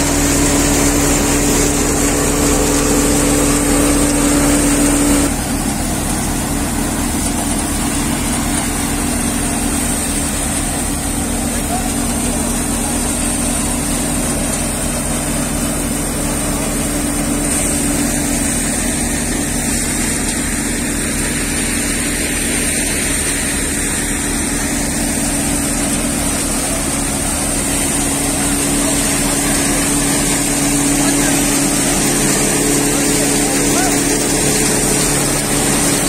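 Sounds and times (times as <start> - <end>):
high machine whine: 0.0 - 36.0
thresher engine drone: 0.0 - 36.0.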